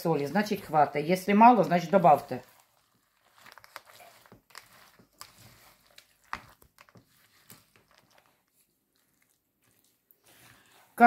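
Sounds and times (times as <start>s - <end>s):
spatula stirring wet batter: 0.0s - 11.0s.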